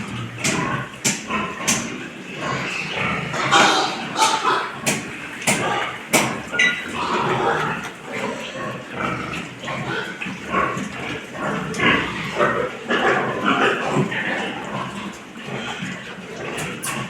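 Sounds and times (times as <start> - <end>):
pigs grunting and squealing: 0.0 - 17.0.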